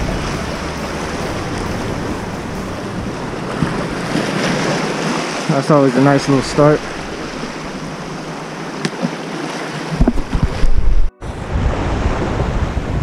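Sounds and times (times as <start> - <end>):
wind buffeting microphone: 0.0 - 5.3, 6.0 - 8.7, 9.9 - 13.0
waves splashing against rocks: 0.0 - 11.1.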